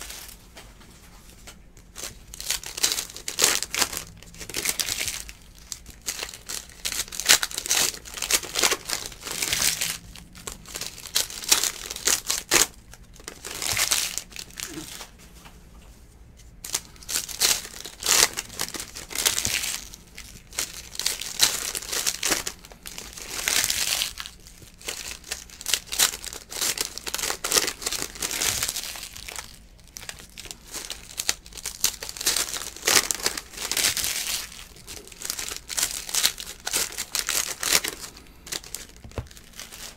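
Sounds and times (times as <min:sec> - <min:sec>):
foil wrappers tearing and crinkling: 0:01.8 - 0:15.2, 0:16.6 - 0:39.9.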